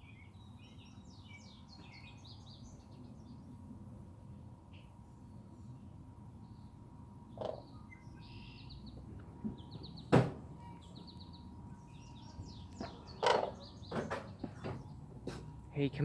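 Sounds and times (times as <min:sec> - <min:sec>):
small birds chirping: 0:00.0 - 0:03.5, 0:05.6 - 0:15.6.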